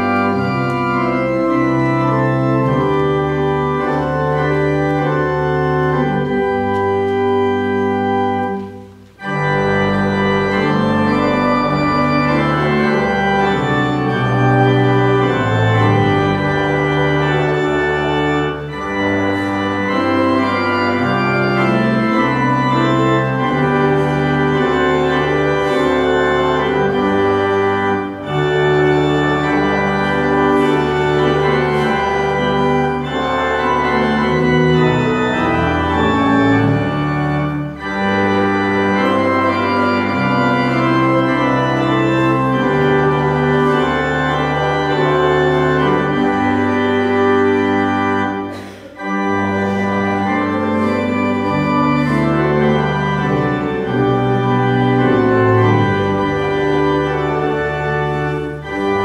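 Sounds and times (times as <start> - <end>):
church organ playing hymn: 0.0 - 59.0.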